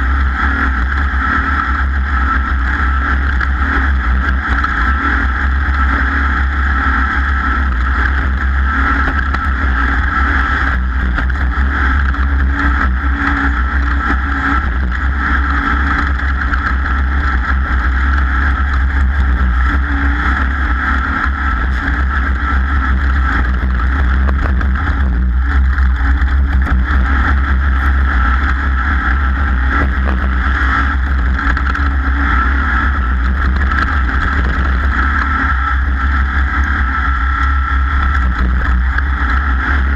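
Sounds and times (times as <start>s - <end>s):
racing engine running loud: 0.0s - 39.9s.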